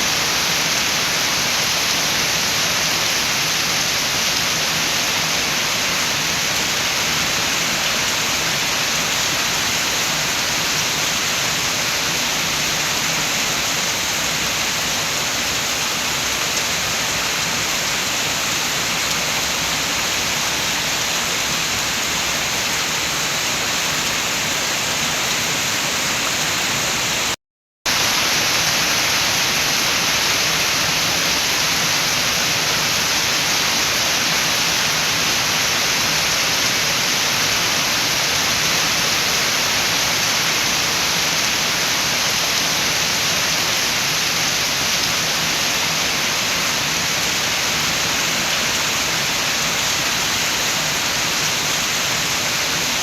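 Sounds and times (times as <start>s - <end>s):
rain with wind: 0.0s - 53.0s.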